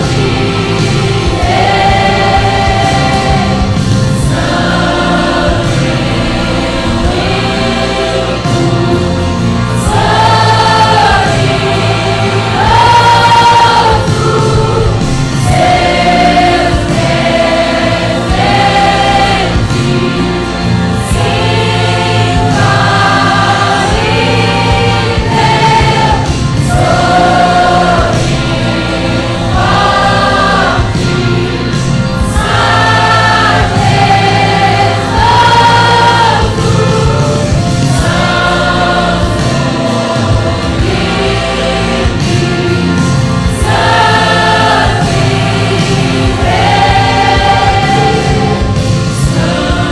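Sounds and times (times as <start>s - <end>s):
choir singing gospel song: 0.0s - 49.9s
musical backing: 0.0s - 49.9s.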